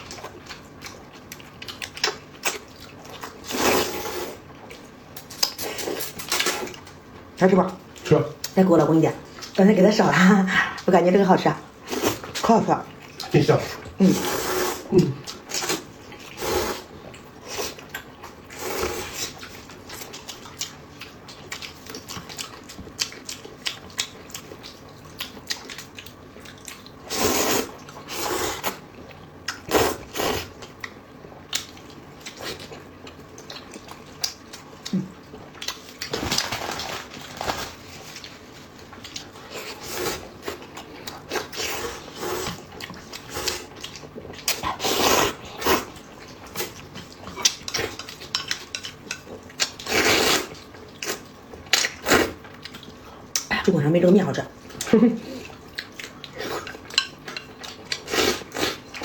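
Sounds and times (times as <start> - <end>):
chewing noodles and meat: 0.0 - 8.6, 11.7 - 53.5, 54.1 - 59.0.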